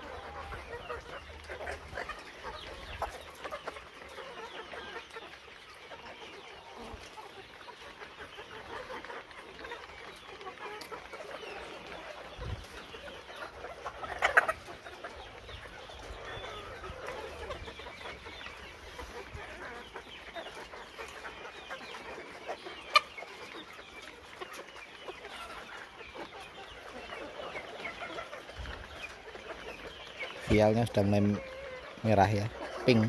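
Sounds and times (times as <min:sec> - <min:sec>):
hens clucking and chattering: 0:00.0 - 0:33.0.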